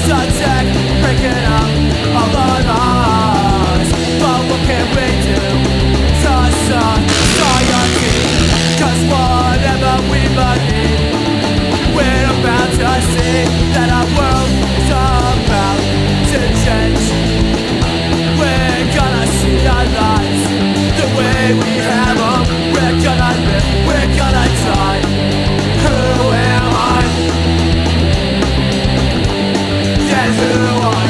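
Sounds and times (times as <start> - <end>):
rock music with distorted guitars: 0.0 - 31.0.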